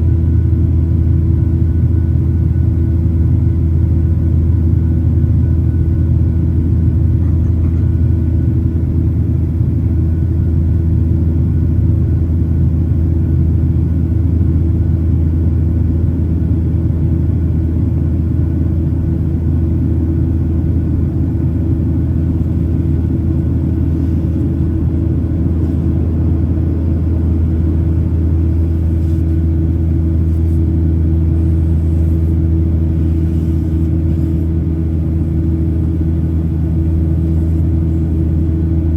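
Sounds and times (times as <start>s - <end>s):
airplane cabin drone: 0.0s - 38.9s
constant hum: 0.0s - 38.9s.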